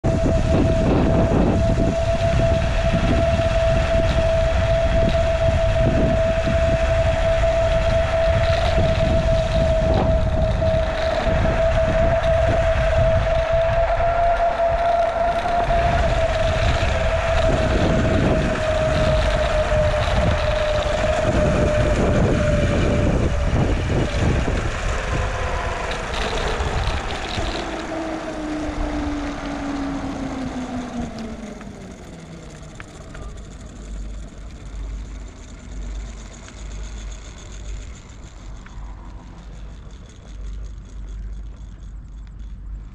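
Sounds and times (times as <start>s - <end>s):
vehicle whine: 0.0s - 42.9s
wind rumbling on microphone: 0.0s - 42.9s.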